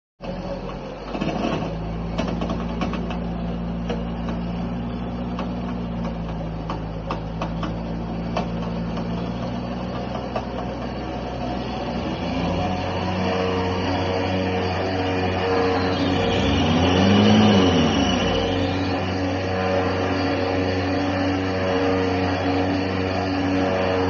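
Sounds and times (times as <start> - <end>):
truck engine at low revs: 0.2 - 24.0.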